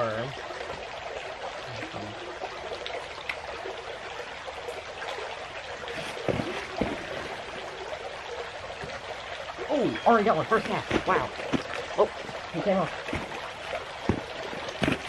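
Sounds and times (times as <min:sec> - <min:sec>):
creek trickling over stones: 0:00.0 - 0:15.0.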